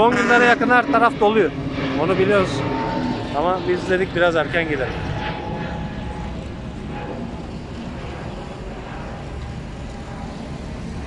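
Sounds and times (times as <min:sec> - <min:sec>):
airplane passing overhead: 0:00.0 - 0:11.0.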